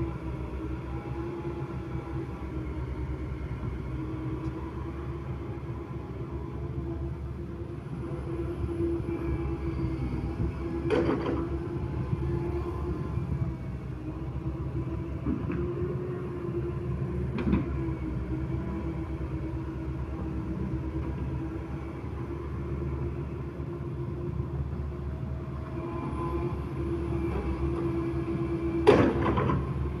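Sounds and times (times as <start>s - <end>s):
excavator engine rumble: 0.0s - 30.0s.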